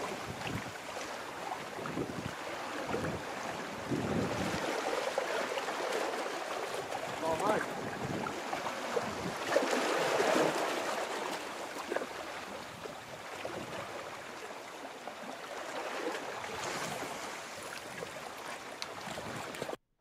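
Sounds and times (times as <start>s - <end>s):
sea water washing against rocks: 0.0s - 19.8s.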